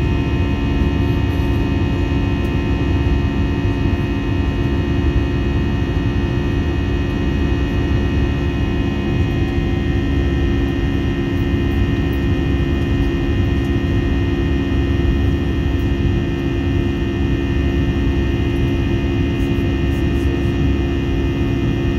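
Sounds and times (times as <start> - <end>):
jet engine drone in cabin: 0.0 - 21.9.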